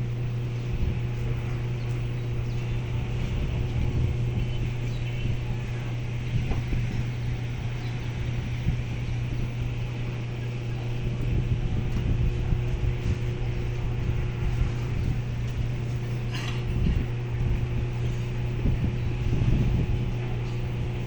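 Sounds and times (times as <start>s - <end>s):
boat engine humming: 0.0s - 21.0s
irregular low rumble: 0.0s - 21.0s.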